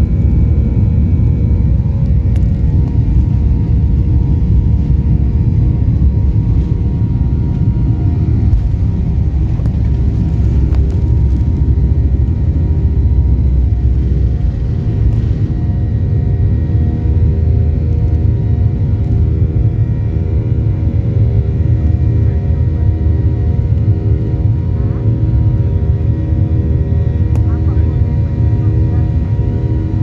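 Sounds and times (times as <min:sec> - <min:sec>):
jet engines at takeoff power: 0:00.0 - 0:30.0.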